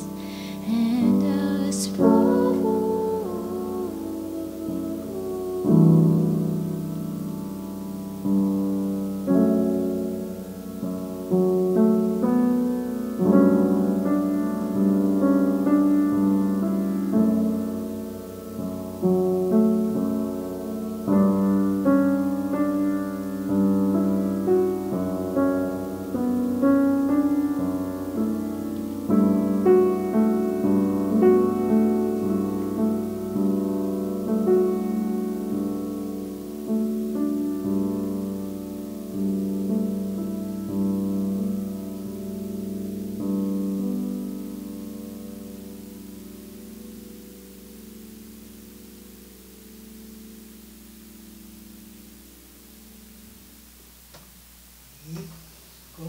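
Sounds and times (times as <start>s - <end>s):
improvised piano playing: 0.0s - 53.2s.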